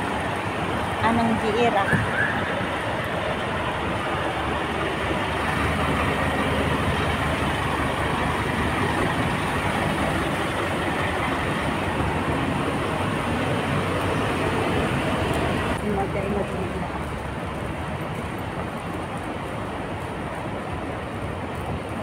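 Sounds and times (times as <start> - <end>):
vehicle engines and tyres: 0.0 - 22.0.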